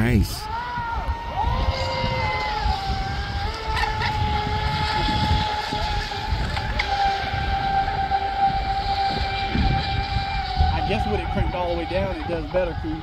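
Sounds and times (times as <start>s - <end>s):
low rumble: 0.0s - 13.0s
electric motor high whine: 0.4s - 13.0s.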